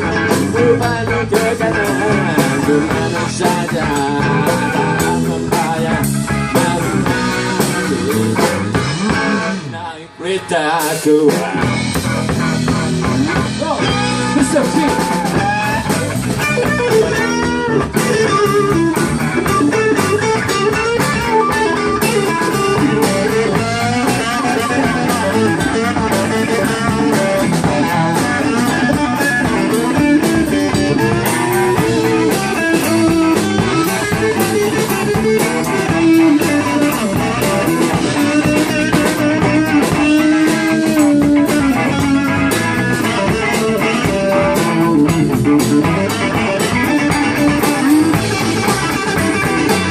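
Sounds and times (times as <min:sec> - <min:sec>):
steady drum beat: 0:00.0 - 0:09.8, 0:10.8 - 0:49.9
bass guitar: 0:00.0 - 0:49.9
electric guitar bending: 0:00.0 - 0:49.9.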